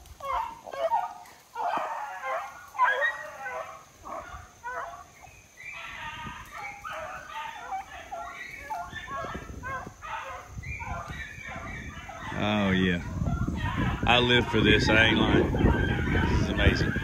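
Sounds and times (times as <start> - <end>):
hounds baying and yelping: 0.0 - 17.0.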